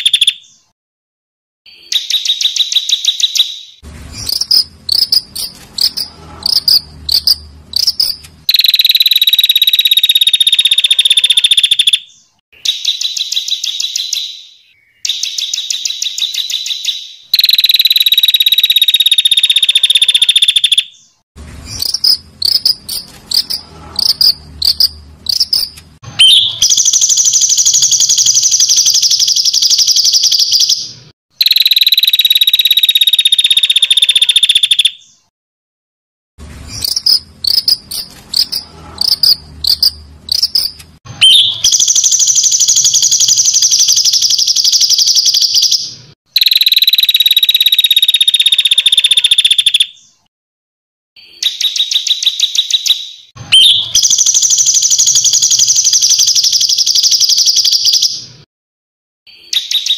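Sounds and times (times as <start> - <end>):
bird sharp chirps: 0.0 - 0.7, 1.7 - 35.3, 36.7 - 50.3, 51.2 - 58.4, 59.3 - 59.9.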